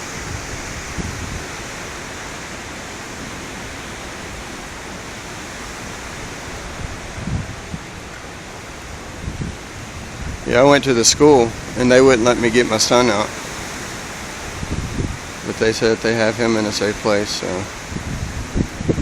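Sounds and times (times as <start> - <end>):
strong storm wind rushing: 0.0 - 19.0
wind buffeting microphone: 0.0 - 19.0.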